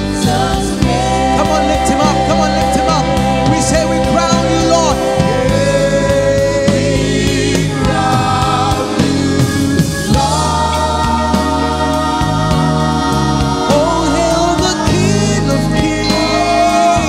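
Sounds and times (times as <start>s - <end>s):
sustained chords: 0.0s - 17.0s
voices singing held notes: 0.0s - 17.0s.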